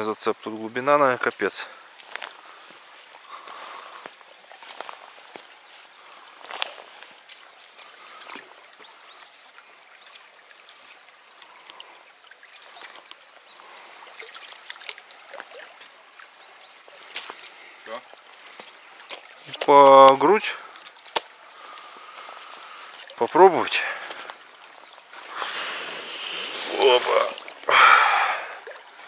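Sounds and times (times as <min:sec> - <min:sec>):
stream trickling over rocks: 0:00.0 - 0:29.0.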